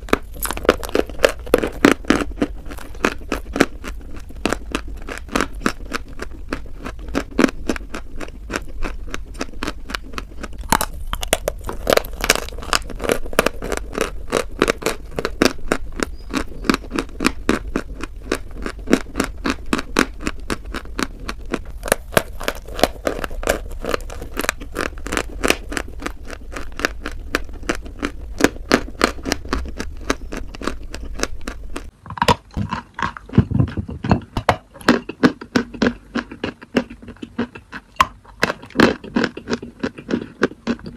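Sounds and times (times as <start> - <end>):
chewing crunchy chalk: 0.0 - 40.9.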